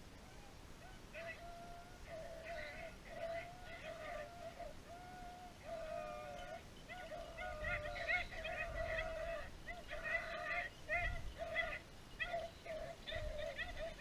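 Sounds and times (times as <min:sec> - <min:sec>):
dogs baying: 0:00.8 - 0:14.0.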